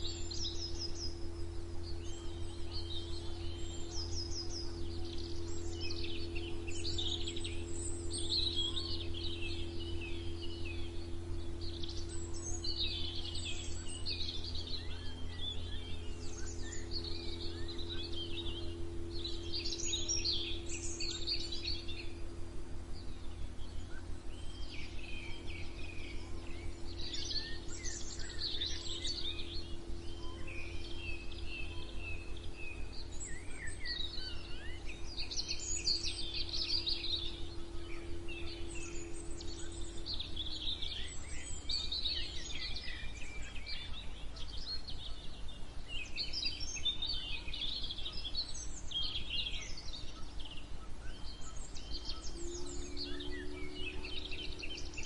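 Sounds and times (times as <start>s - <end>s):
low hum and rumble: 0.0s - 55.0s
songbirds singing: 0.0s - 55.0s.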